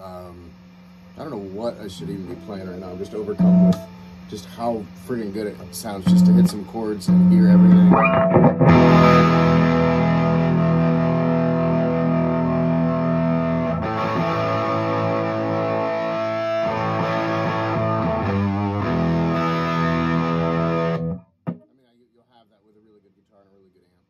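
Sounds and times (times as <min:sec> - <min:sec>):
electric guitar chords strummed: 0:01.0 - 0:21.7.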